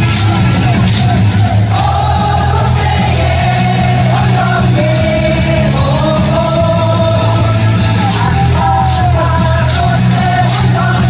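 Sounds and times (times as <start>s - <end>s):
cheering song over loudspeakers: 0.0s - 11.0s
heavy bass: 0.0s - 11.0s
singing: 0.0s - 11.0s.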